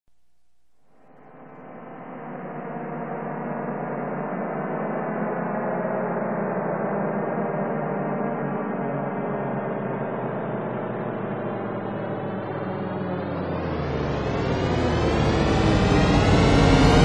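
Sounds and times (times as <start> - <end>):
sustained drone of held tones: 0.8 - 17.0.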